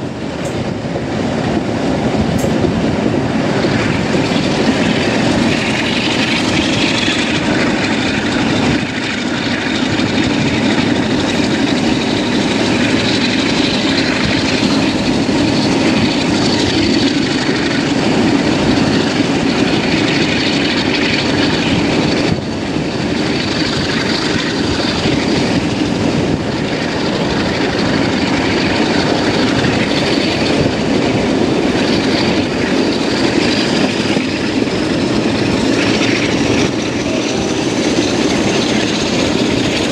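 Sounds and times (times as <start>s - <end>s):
rushing air: 0.0s - 39.9s
train wheels rumbling on rail: 0.0s - 39.9s.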